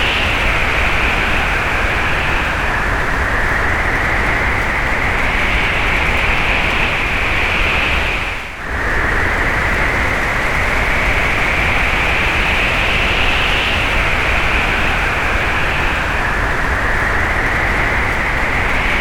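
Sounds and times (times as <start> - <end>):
loud storm wind: 0.0 - 19.0.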